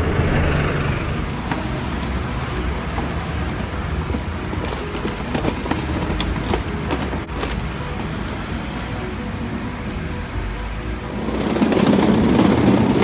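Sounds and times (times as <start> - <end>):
road traffic rumbling: 0.0 - 13.0.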